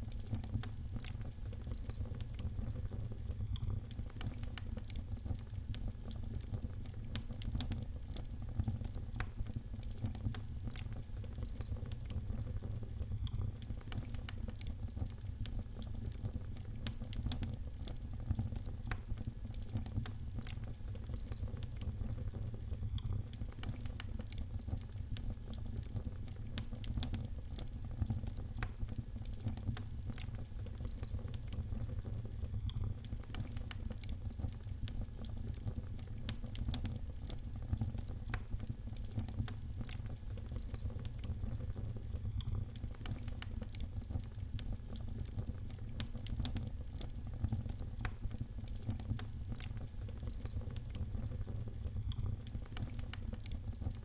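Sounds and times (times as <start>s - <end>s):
fire crackling and popping: 0.0s - 54.0s
low rumble of fire: 0.0s - 54.0s.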